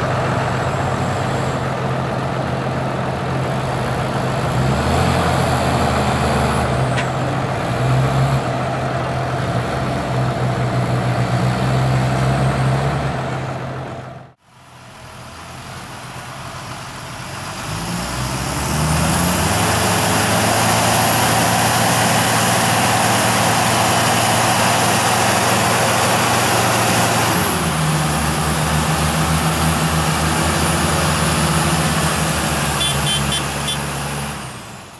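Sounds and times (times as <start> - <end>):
tractor diesel engines running: 0.0 - 34.9.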